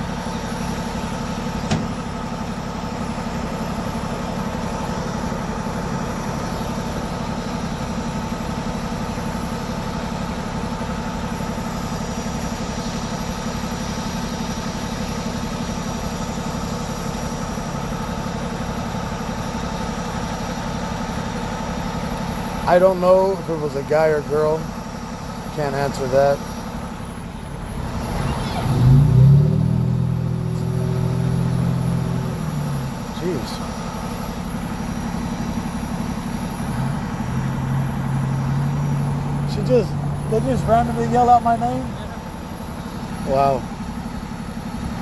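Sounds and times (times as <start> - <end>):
vehicle engine idling: 0.0 - 45.0.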